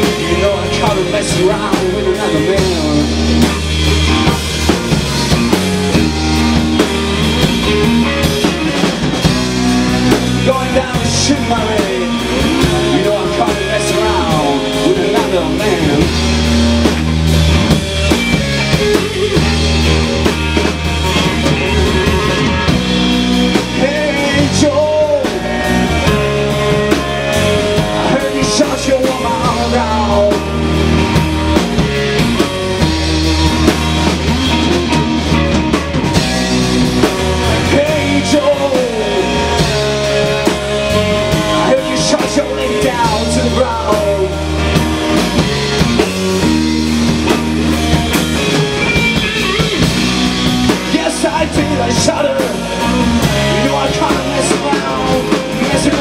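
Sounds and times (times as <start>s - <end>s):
drum kit: 0.0s - 56.0s
electric bass: 0.0s - 56.0s
electric guitar lead: 0.0s - 56.0s.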